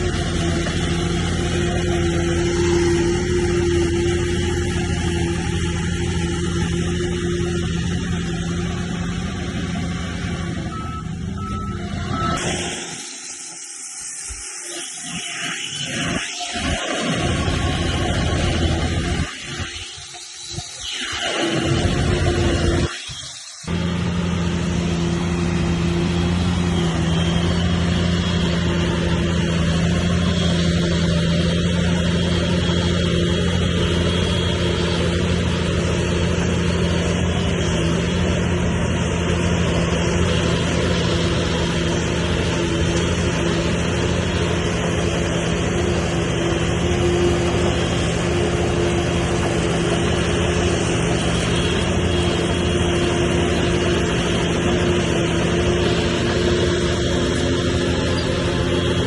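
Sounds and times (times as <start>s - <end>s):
diesel machine engine running: 0.0s - 15.0s, 15.6s - 59.0s.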